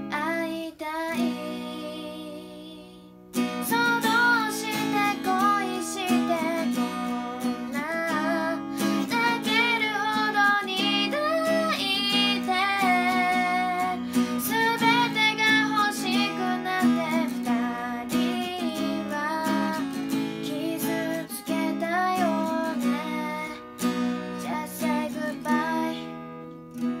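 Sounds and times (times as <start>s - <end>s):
girl singing: 0.0s - 27.0s
acoustic guitar strumming: 3.0s - 27.0s.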